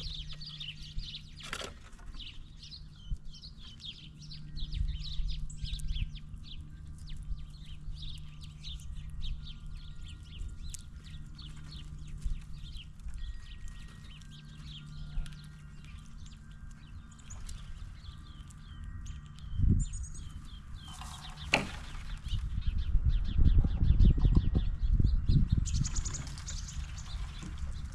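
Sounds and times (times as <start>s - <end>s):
birds chirping: 0.0s - 27.9s
steady low hum: 0.0s - 27.9s.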